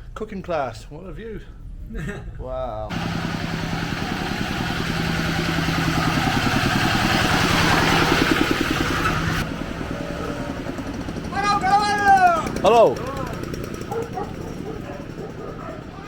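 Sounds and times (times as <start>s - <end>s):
small motorcycle engine running: 2.9s - 16.0s.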